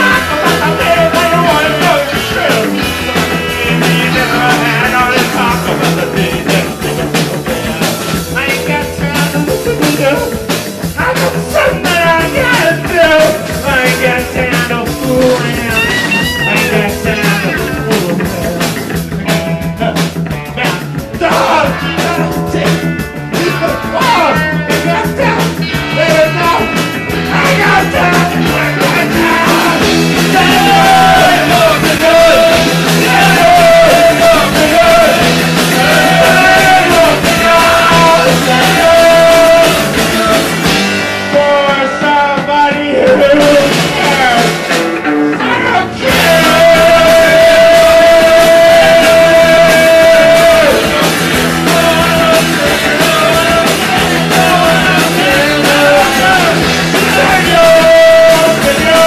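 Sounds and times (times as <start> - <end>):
person singing: 0.0 - 59.0
punk rock band playing loud: 0.0 - 59.0.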